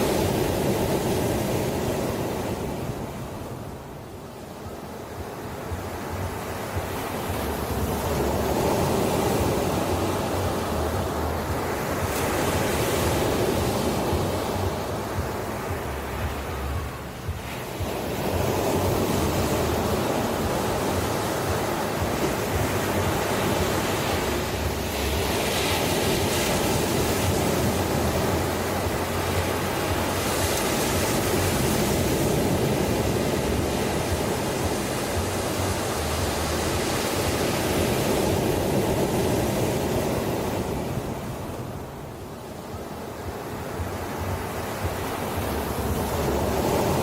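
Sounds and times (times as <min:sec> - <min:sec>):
ocean waves washing ashore: 0:00.0 - 0:47.0.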